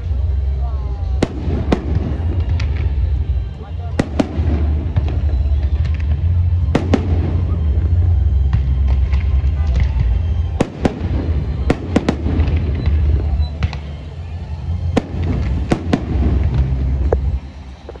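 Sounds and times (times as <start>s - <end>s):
fireworks bangs and cracks: 0.0s - 18.0s
low rumble of fireworks bursts: 0.0s - 18.0s.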